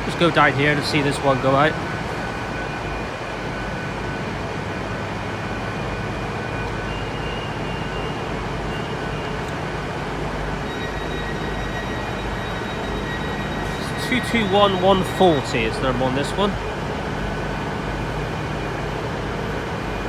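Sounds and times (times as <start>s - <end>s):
diesel engines running steadily: 0.0s - 20.0s
thin high whines: 0.0s - 20.0s.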